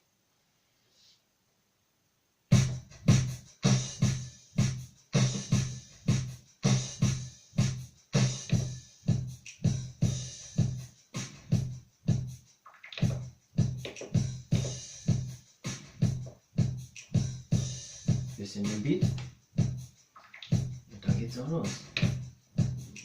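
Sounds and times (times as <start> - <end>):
keyboard drum rhythm: 2.5 - 23.0.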